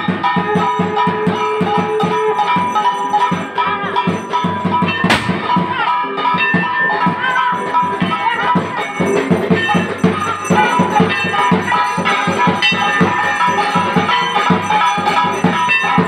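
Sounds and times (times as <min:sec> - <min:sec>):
devotional music with percussion: 0:00.0 - 0:16.0.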